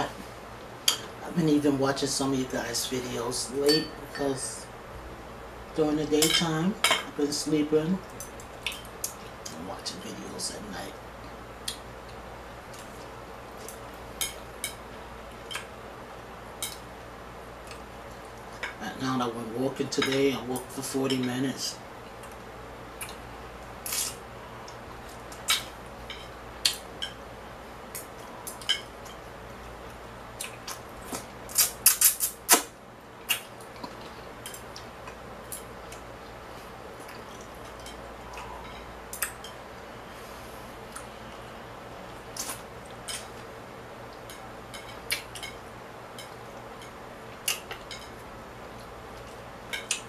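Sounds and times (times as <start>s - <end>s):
low background noise: 0.0s - 50.0s.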